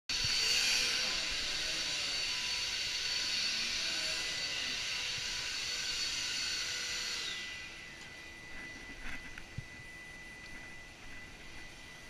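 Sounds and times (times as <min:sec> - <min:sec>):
vacuum cleaner running: 0:00.1 - 0:12.0.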